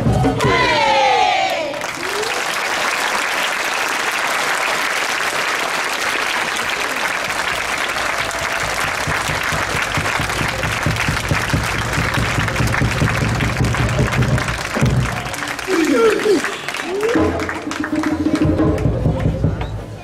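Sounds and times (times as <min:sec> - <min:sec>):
crowd applauding: 0:01.4 - 0:19.4.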